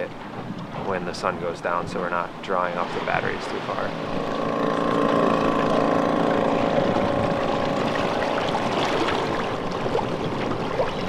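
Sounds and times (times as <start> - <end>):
water splashing against a hull: 0.0 - 11.0
wind on microphone: 0.0 - 11.0.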